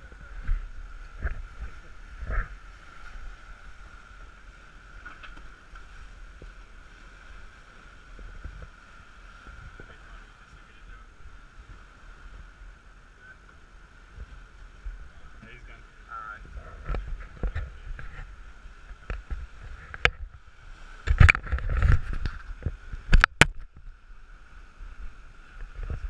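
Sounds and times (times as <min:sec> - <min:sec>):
wake water and wind rushing: 0:00.0 - 0:26.0.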